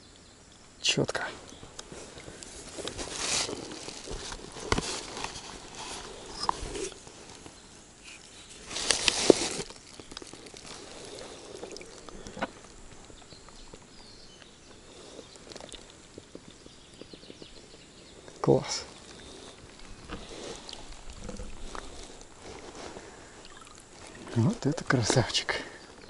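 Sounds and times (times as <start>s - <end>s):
rustling: 1.3s - 26.0s.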